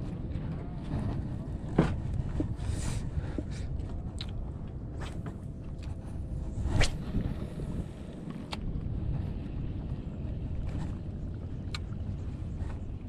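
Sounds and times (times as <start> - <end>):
wind and water rumble: 0.0 - 13.0.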